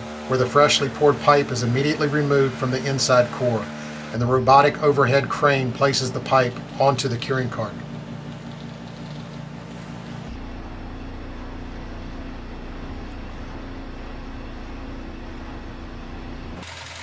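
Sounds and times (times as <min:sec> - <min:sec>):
deep hum with held tone: 0:00.0 - 0:17.0
machinery drone: 0:00.0 - 0:17.0.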